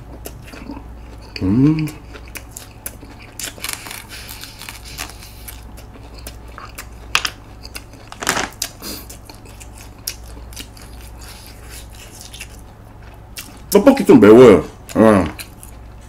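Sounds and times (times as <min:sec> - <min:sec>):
person chewing food: 0:00.0 - 0:14.0, 0:14.8 - 0:16.0.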